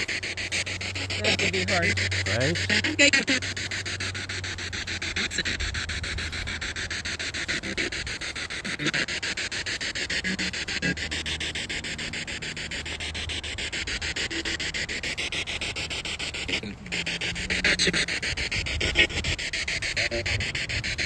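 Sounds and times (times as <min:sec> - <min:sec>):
pulsing radio static: 0:00.0 - 0:21.0
scraps of broadcast sound: 0:00.0 - 0:21.0.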